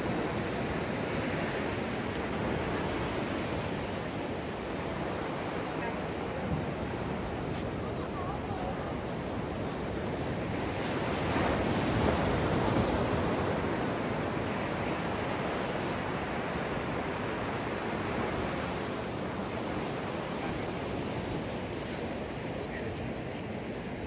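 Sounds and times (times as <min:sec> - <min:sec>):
surf washing up beach: 0:00.0 - 0:24.0.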